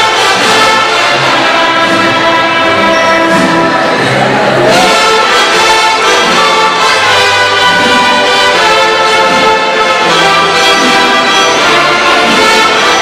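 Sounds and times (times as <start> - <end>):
mariachi ensemble playing: 0.0 - 13.0
trumpets: 0.0 - 13.0.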